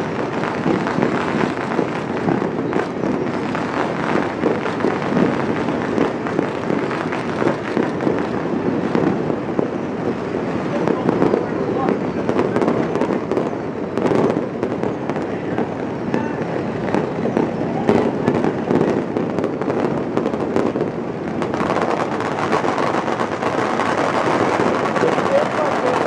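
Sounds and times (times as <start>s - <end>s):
fireworks and firecrackers bangs: 0.0s - 26.0s.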